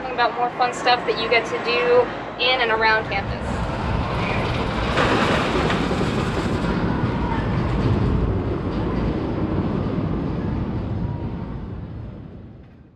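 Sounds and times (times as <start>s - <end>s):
roller coaster rumbling and clattering: 0.8s - 12.9s.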